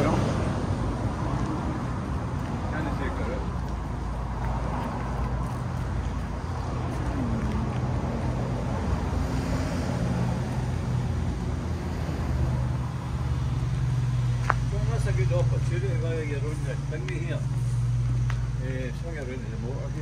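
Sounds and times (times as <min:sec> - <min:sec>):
low engine hum: 0:00.0 - 0:20.0
road noise: 0:00.0 - 0:20.0.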